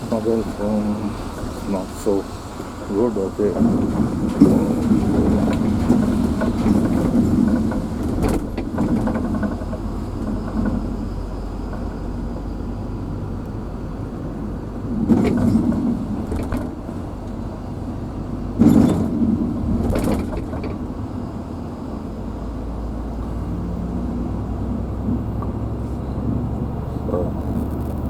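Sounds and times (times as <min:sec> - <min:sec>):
vehicle rumble from inside: 0:00.0 - 0:28.0.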